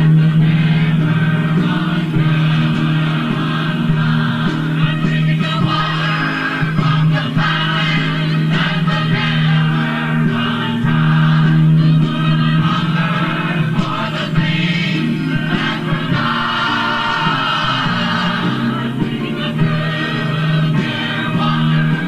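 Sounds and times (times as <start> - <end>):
congregation singing a hymn: 0.0 - 22.0
low steady accompaniment: 0.0 - 22.0.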